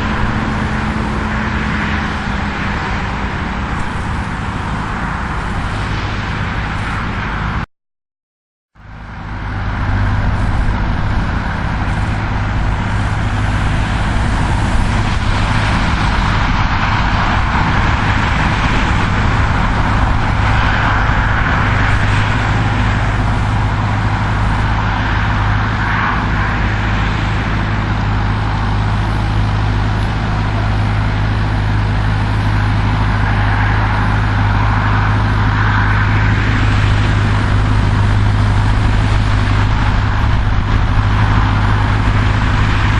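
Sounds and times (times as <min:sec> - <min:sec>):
tractor diesel engine under load: 0:00.0 - 0:07.7, 0:08.7 - 0:42.9.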